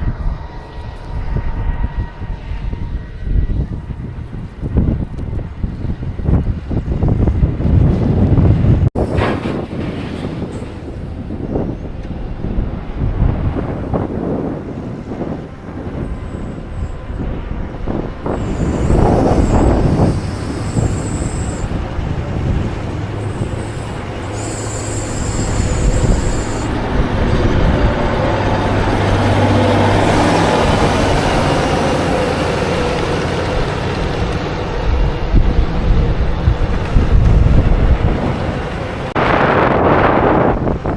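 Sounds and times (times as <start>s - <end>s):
diesel farm machinery running: 0.0s - 40.9s.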